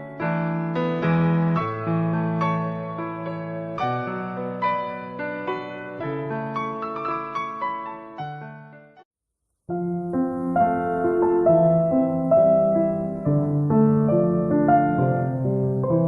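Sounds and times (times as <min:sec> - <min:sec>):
gentle piano music: 0:00.0 - 0:09.0, 0:09.7 - 0:16.0.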